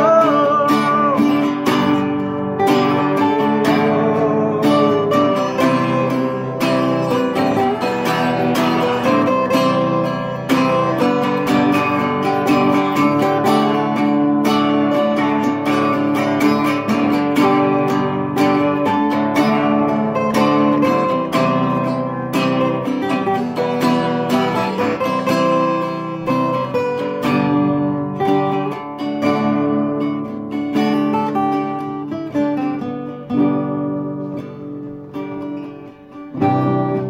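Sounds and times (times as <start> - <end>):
acoustic guitars strumming: 0.0 - 37.0.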